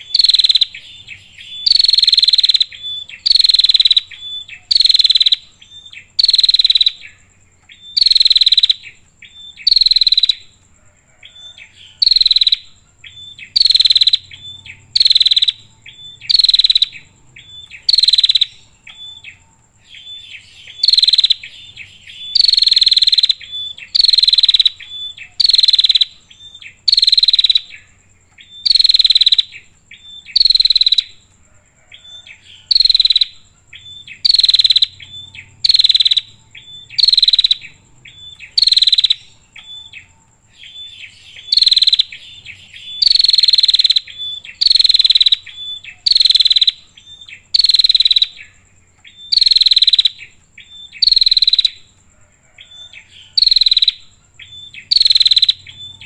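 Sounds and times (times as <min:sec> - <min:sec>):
thin bird chirps: 0:00.0 - 0:10.6, 0:11.3 - 0:31.2, 0:31.9 - 0:56.0.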